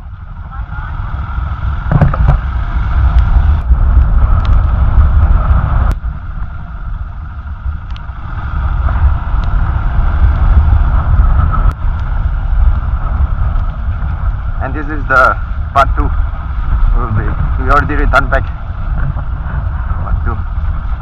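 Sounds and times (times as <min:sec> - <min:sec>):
motorcycle engine and road noise: 0:00.0 - 0:21.0.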